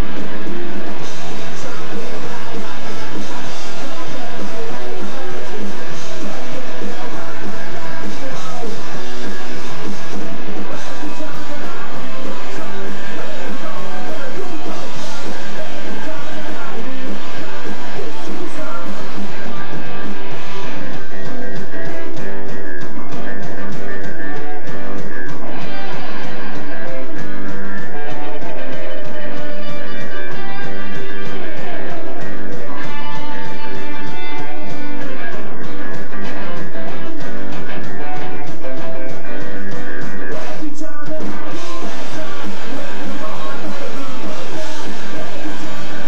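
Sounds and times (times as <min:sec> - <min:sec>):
punk rock band playing live: 0:00.0 - 0:46.0.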